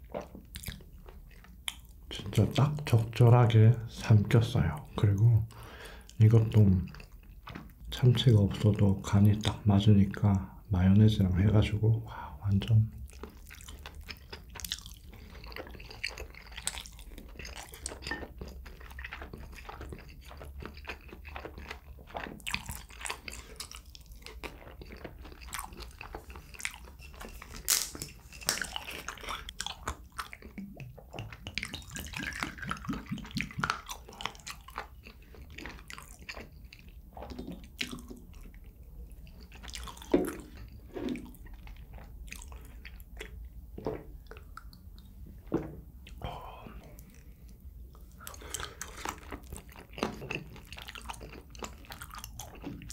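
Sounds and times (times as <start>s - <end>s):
person chewing food: 0.0s - 3.0s, 4.6s - 8.0s, 12.7s - 52.9s.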